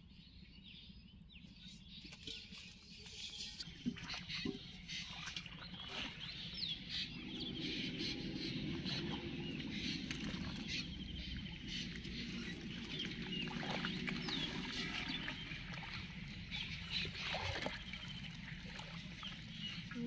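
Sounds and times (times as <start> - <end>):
small birds chirping: 0.8 - 20.0
wading through pond water: 1.6 - 20.0.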